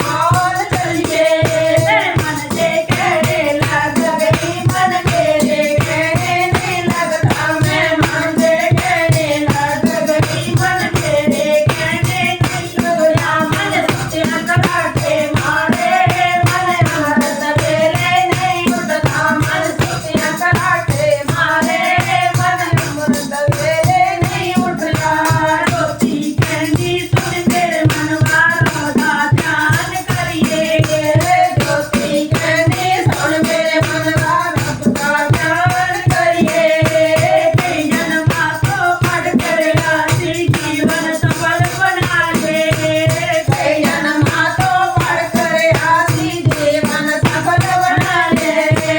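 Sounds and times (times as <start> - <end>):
rhythmic percussion beat: 0.0 - 48.9.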